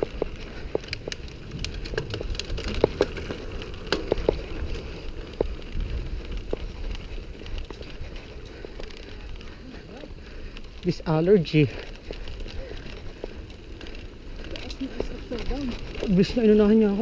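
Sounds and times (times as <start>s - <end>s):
bike clicking and rattling: 0.0s - 17.0s
tyres rumbling on concrete: 0.0s - 17.0s.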